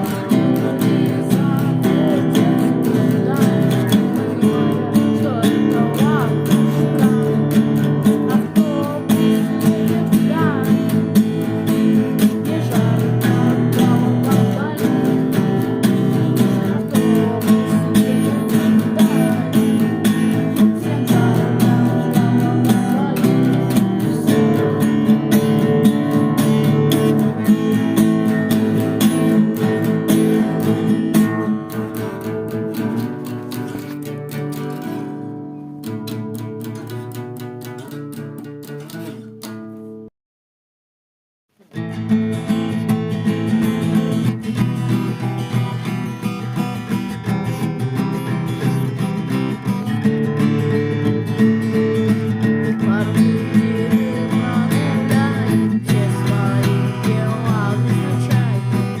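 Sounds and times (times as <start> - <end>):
song with acoustic guitar: 0.0 - 40.1, 41.5 - 59.0.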